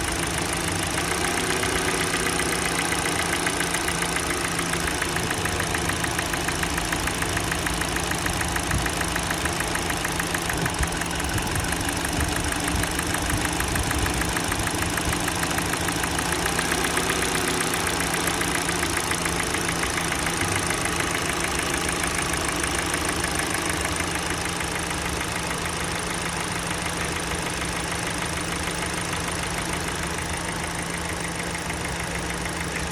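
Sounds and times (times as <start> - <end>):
car engine idling: 0.0 - 32.9
engine knocking: 0.0 - 32.9.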